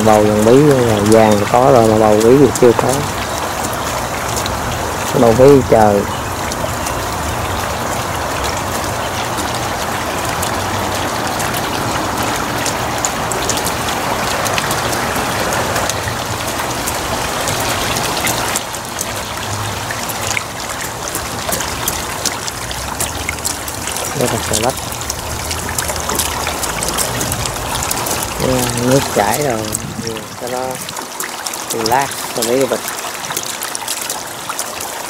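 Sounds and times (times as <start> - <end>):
water trickling onto stones: 0.0 - 35.0.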